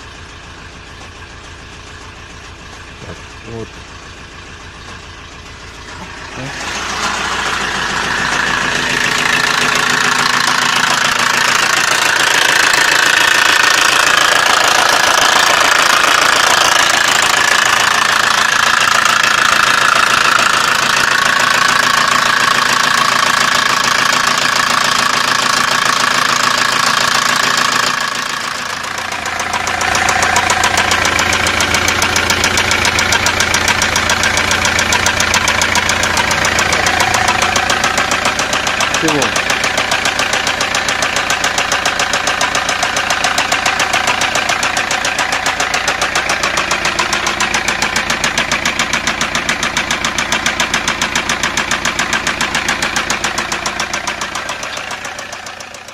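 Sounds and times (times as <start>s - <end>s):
diesel engine knocking: 0.0s - 55.9s.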